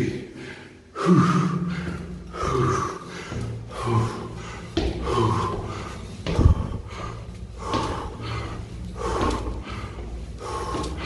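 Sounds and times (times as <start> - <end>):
man breathing hard and gasping: 0.3 - 11.0.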